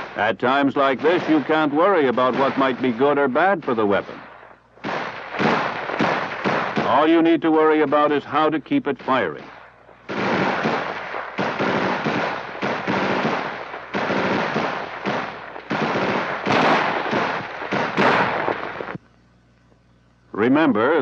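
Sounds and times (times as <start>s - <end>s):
automatic rifle fire: 0.9s - 8.1s, 9.0s - 19.0s.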